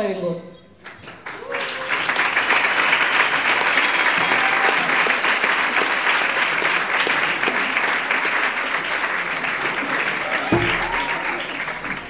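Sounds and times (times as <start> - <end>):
crowd applauding: 0.8 - 12.0.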